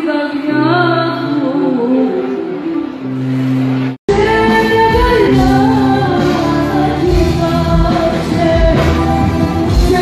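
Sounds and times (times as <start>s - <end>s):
woman singing into microphone: 0.0s - 3.1s, 4.1s - 10.0s
live band music: 1.2s - 10.0s.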